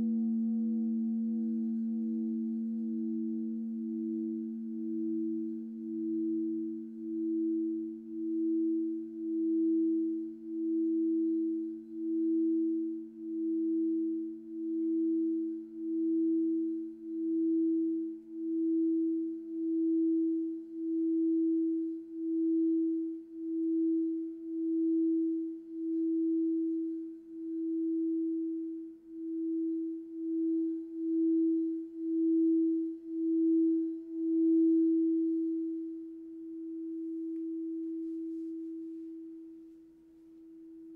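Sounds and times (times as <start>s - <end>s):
lower bowl tone: 0.0s - 40.9s
singing bowl pulsing tone: 0.0s - 40.9s.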